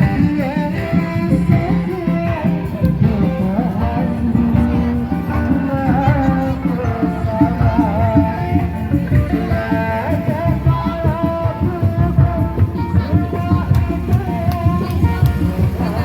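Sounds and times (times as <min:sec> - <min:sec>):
drums beating quick rhythm: 0:00.0 - 0:16.0
wavering folk melody: 0:00.0 - 0:16.0.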